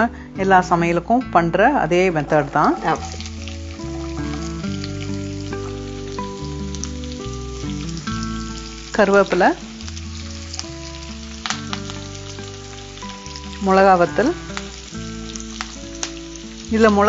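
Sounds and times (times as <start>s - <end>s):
background music with held notes: 0.0s - 17.0s
onions sizzling in hot oil: 0.0s - 17.0s.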